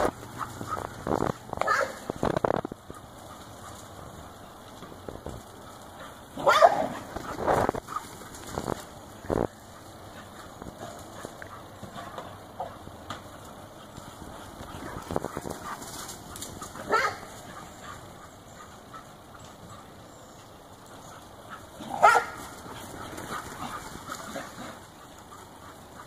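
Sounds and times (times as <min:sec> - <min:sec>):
small dogs barking: 0:00.0 - 0:04.7, 0:05.6 - 0:20.1, 0:20.9 - 0:26.0.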